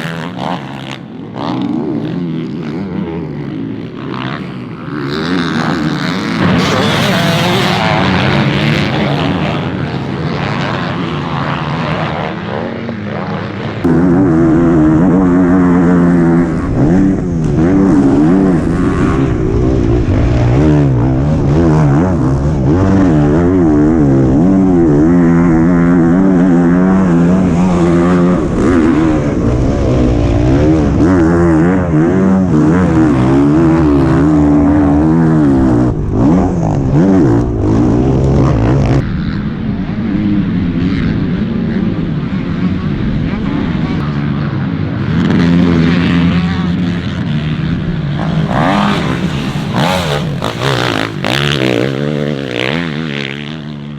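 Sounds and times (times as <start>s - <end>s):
motocross bike engine racing: 0.0s - 53.9s.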